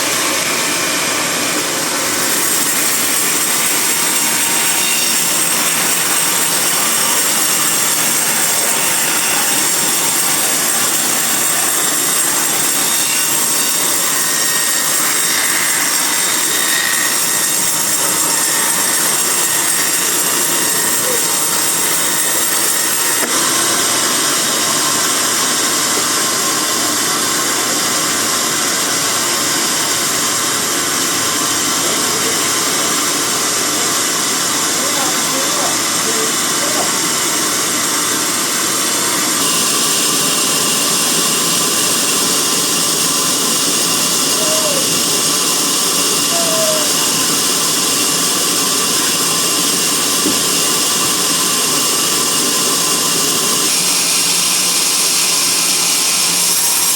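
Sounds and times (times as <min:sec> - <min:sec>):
bandsaw cutting log: 0:00.0 - 0:56.9.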